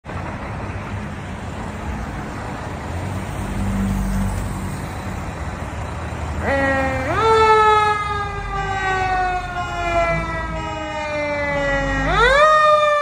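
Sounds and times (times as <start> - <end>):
cars passing on wet road: 0.0 - 13.0.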